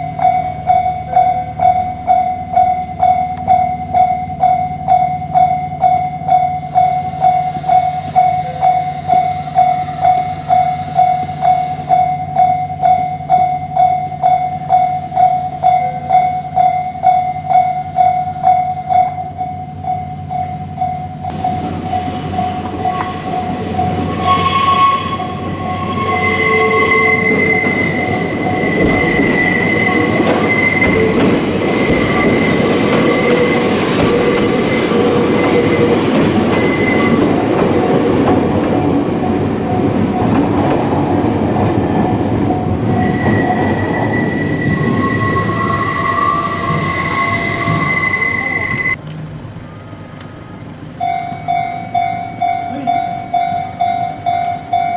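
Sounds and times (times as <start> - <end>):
level-crossing alarm ringing: 0.0 - 49.0, 49.7 - 54.9
train wheels squealing: 0.0 - 49.0, 49.7 - 54.9
train running over crossing: 0.0 - 54.9.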